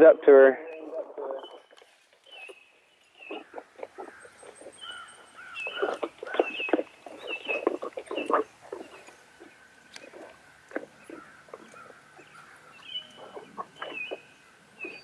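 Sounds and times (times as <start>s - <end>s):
birds chirping and chattering: 0.0s - 15.0s.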